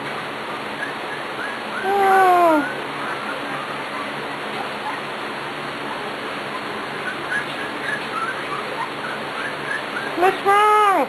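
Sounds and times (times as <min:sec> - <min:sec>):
puppies squeaking: 0:00.2 - 0:11.0.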